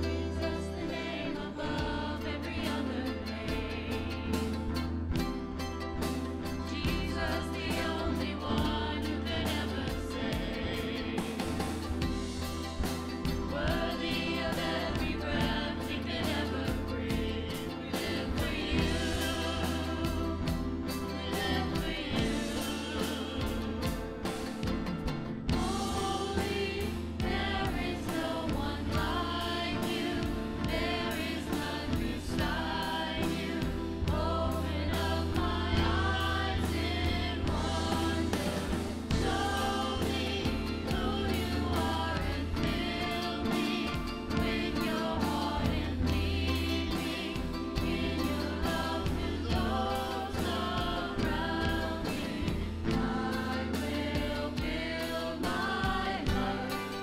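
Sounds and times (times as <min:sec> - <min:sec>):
group singing worship song: 0:00.0 - 0:57.0
instrumental accompaniment with bass: 0:00.0 - 0:57.0.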